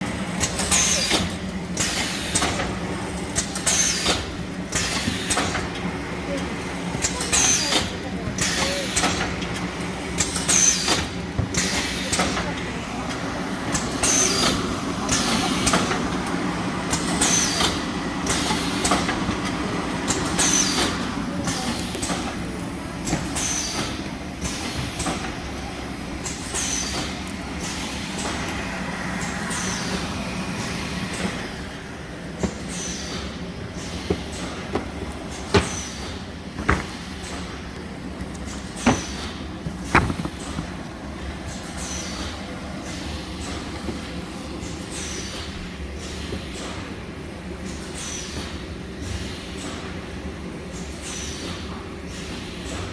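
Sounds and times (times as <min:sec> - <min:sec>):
packaging machine humming: 0:00.0 - 0:52.9.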